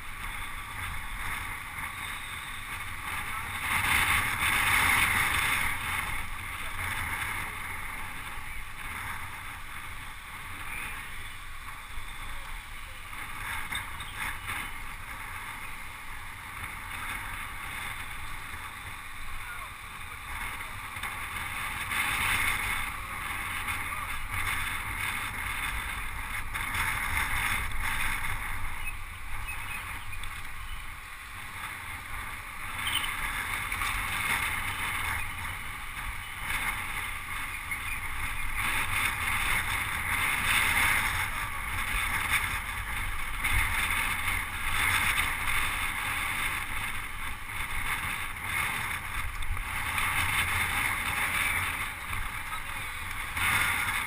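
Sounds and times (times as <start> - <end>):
road rumble: 0.0 - 54.0
wind rushing over microphone: 0.0 - 54.0.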